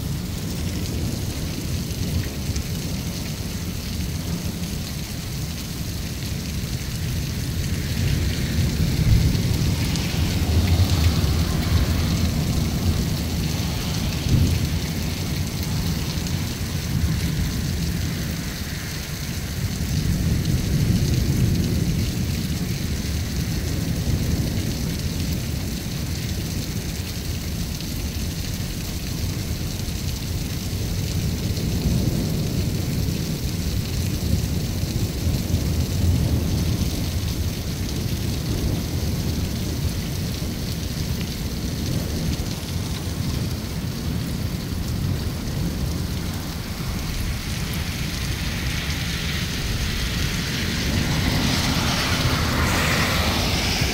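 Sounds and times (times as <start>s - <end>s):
low rolling thunder: 0.0s - 26.8s, 30.4s - 53.9s
heavy rain pouring: 0.0s - 53.9s.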